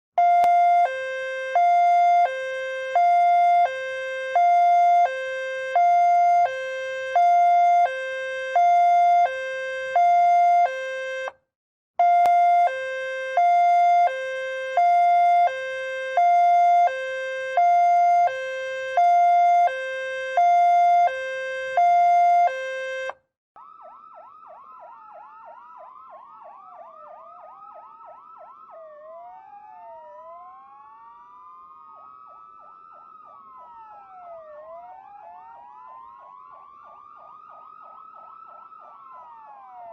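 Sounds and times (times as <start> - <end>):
electronic siren sweeping: 0.2 - 11.3, 12.0 - 39.9
two-tone ambulance siren: 0.2 - 39.9.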